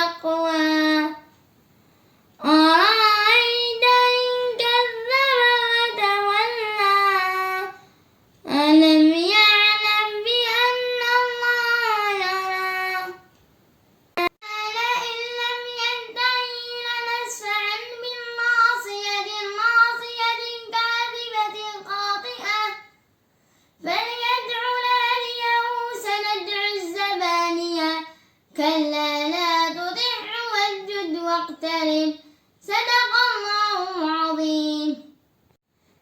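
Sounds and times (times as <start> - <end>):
child chanting recitation: 0.0 - 1.4, 2.4 - 7.8, 8.4 - 13.3, 14.2 - 23.0, 23.8 - 35.2.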